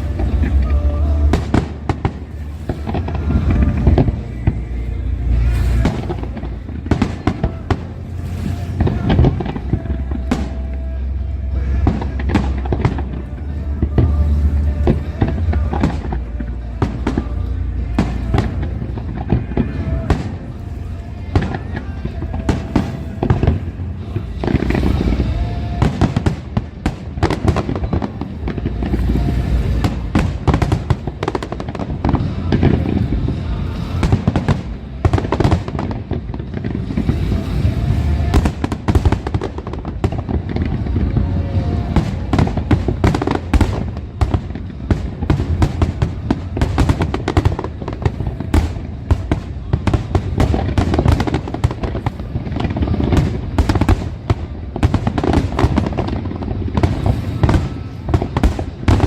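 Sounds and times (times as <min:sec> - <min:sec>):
fireworks bursts and bangs: 0:00.0 - 0:59.0.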